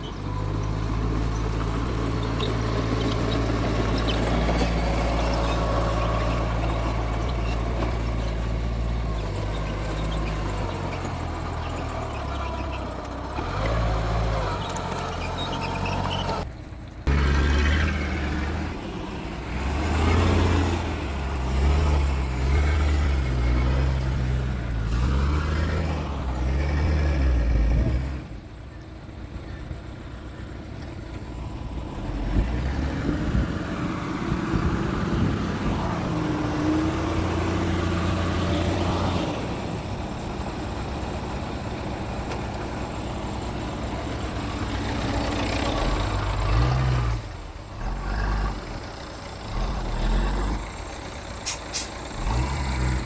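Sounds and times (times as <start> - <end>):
bulldozer diesel engine working: 0.0 - 53.0.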